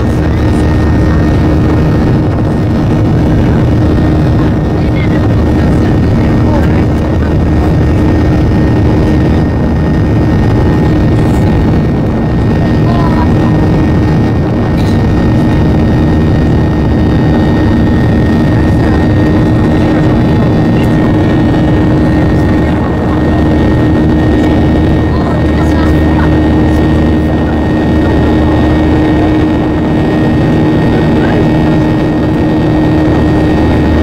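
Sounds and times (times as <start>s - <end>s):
jet engines at climb power: 0.0s - 34.0s.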